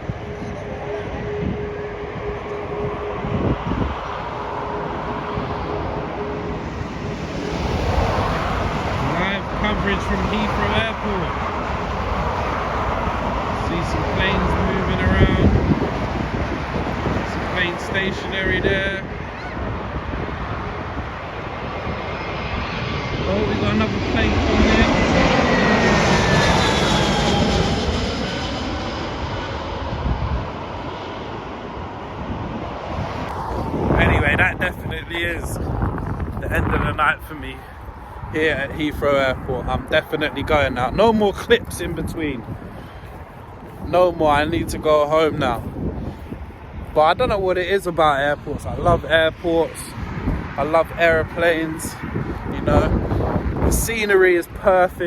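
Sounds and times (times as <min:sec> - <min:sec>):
distant aircraft rushing: 0:00.0 - 0:55.0
jet airliner passing: 0:00.0 - 0:55.0
wind buffeting microphone: 0:00.0 - 0:55.0.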